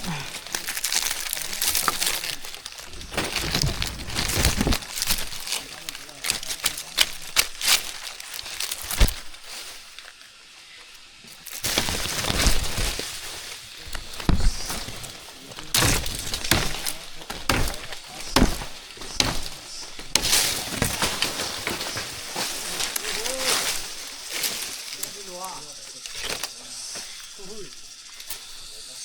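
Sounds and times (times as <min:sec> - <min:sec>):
brittle cracks and snaps: 0:00.0 - 0:10.2, 0:11.3 - 0:25.3, 0:25.9 - 0:26.6
rustling: 0:00.0 - 0:28.8.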